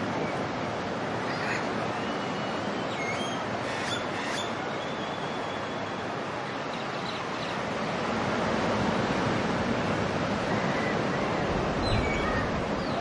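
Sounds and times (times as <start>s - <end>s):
surf washing on beach: 0.0s - 13.0s.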